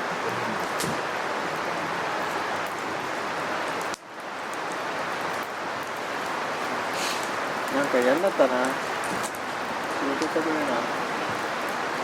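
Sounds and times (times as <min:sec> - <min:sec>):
campfire hissing and crackling: 0:00.0 - 0:12.0.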